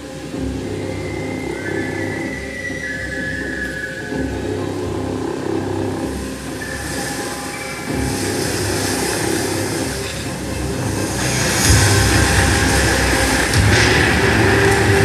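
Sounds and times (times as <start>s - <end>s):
low rumbling drone: 0.0s - 15.0s
rising hiss: 0.0s - 15.0s.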